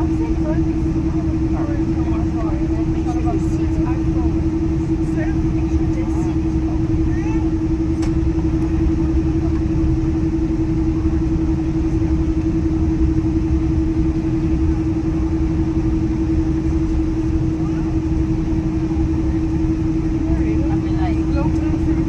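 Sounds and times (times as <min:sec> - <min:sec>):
aircraft engine hum: 0:00.0 - 0:22.0
low cabin rumble: 0:00.0 - 0:22.0.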